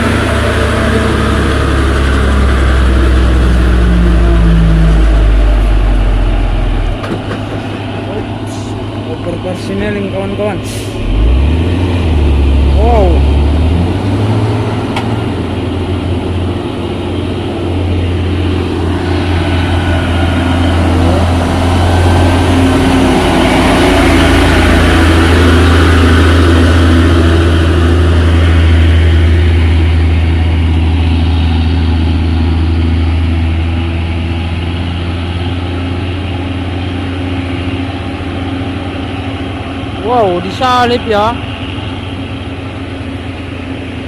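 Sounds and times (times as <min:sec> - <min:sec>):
truck diesel engine pulling uphill: 0:00.0 - 0:44.0.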